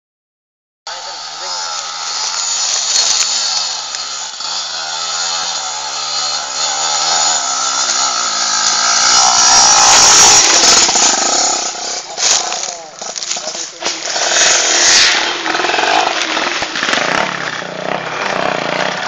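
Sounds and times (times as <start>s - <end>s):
motorcycle engine revving: 0.9s - 19.0s.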